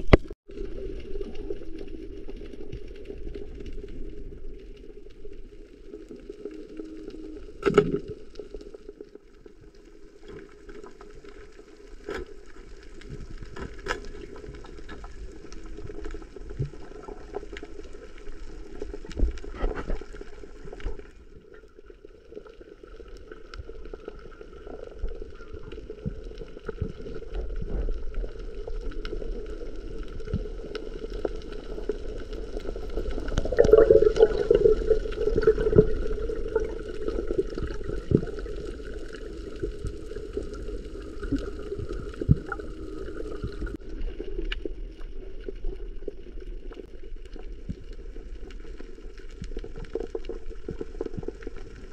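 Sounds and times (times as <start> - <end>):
muffled underwater water noise: 0.0 - 51.9
sharp clicks and crackles: 0.0 - 51.9
water gurgling: 0.0 - 51.9.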